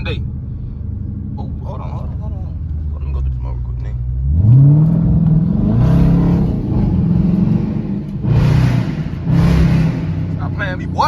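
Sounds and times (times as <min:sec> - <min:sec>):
car engine accelerating hard: 0:01.0 - 0:11.0.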